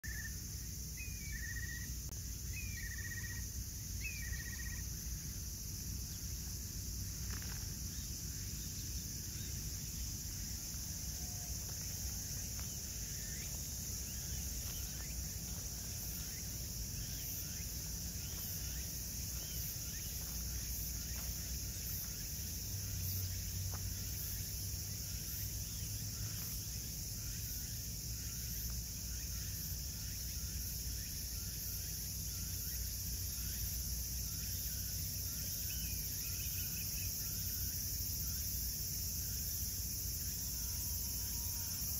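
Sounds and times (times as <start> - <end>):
insects chorus: 0.0 - 41.9.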